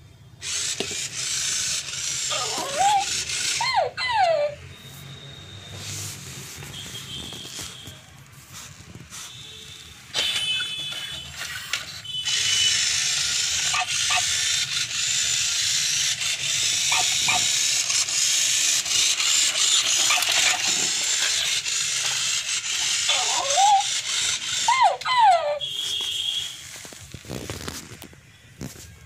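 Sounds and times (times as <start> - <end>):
robot toy motors whirring: 0.4 - 4.6, 5.7 - 27.7.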